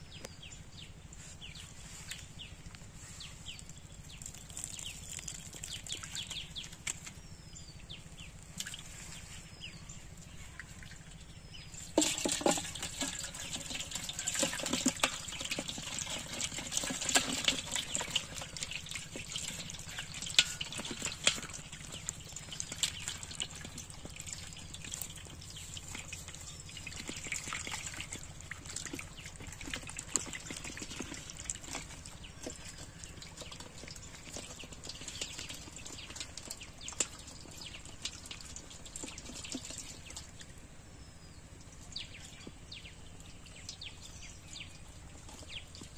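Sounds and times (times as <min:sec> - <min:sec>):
water splashing and dribbling: 0:00.4 - 0:45.9.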